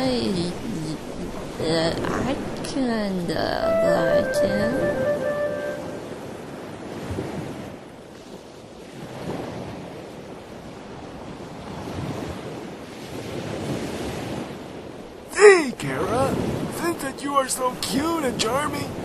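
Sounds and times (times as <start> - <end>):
ocean waves washing in and out: 0.0 - 19.0.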